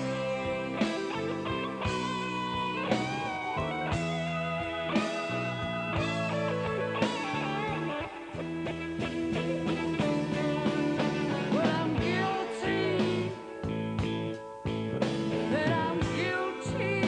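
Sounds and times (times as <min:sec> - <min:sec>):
blues-rock band playing: 0:00.0 - 0:17.0
electric guitar bending notes: 0:00.0 - 0:17.0.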